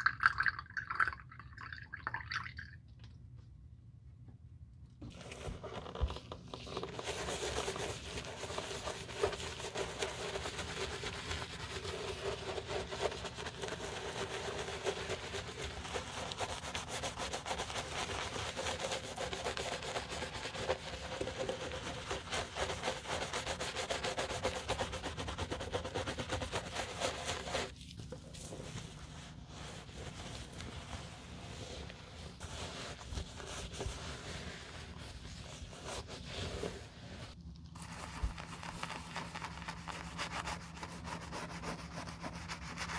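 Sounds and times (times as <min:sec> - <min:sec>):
brush scrubbing leather shoe: 0:05.3 - 0:42.9.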